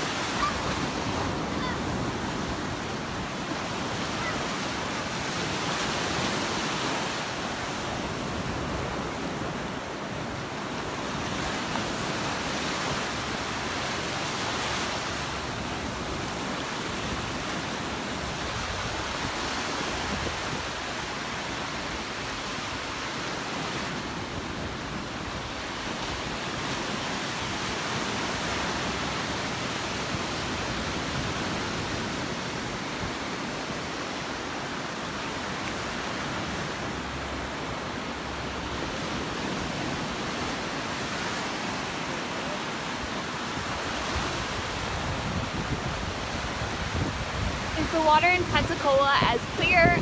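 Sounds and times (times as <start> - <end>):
surf breaking on beach: 0.0 - 50.0.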